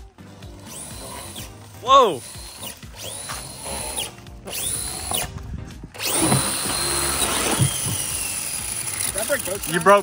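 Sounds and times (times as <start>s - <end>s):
electric motor whining: 0.5s - 10.0s.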